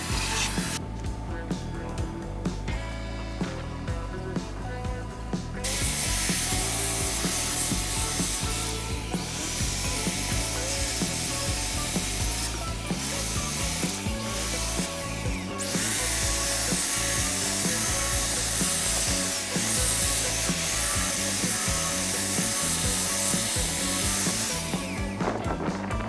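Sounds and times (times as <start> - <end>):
power tool working on wood: 0.0 - 0.8, 5.5 - 26.0
background music: 0.0 - 26.0.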